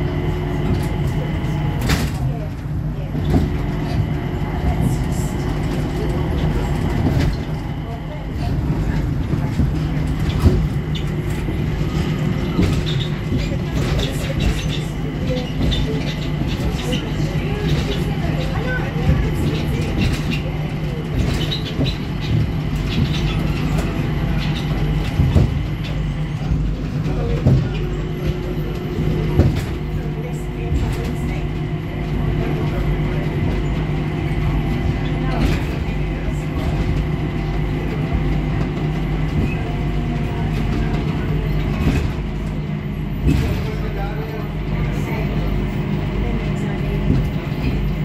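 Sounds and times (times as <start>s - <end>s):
train interior low hum: 0.0s - 48.0s.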